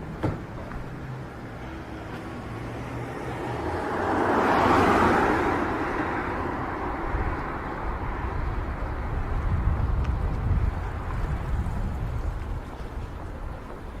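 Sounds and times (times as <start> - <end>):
background traffic rumble: 0.0 - 14.0
vehicle passing by: 1.0 - 12.3.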